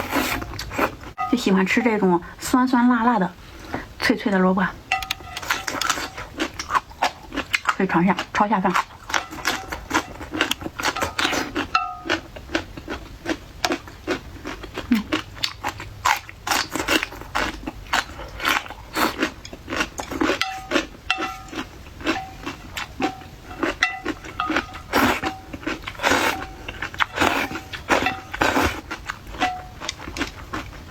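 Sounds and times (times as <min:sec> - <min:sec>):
chewing crunchy food: 0:04.9 - 0:30.9.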